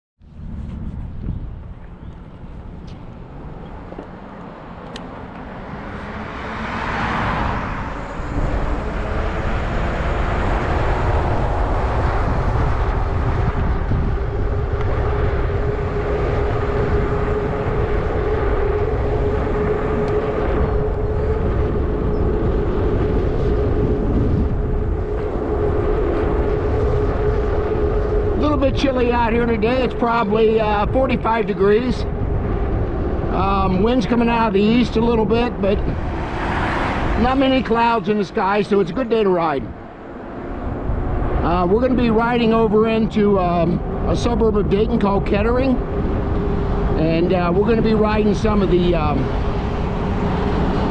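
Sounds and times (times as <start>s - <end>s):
wind noise on microphone: 0.2s - 50.9s
steady hum: 7.6s - 50.9s.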